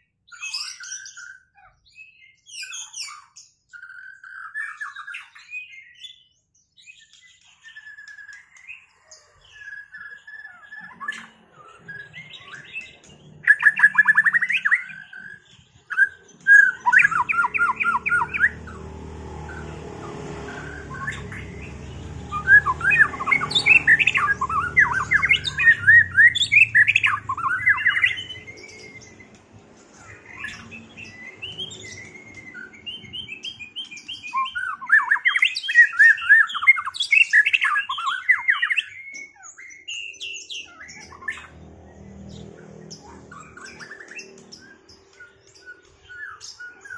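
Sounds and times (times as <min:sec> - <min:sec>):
bird singing rapid loud phrases: 0:00.0 - 0:46.9.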